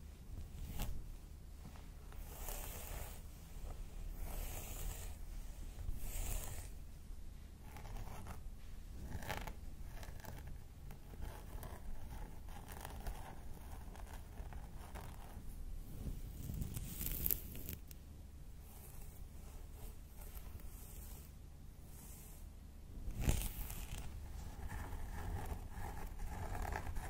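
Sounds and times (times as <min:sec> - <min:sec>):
fingers rustling through hair: 0:00.3 - 0:06.8, 0:07.6 - 0:18.0, 0:18.6 - 0:27.0.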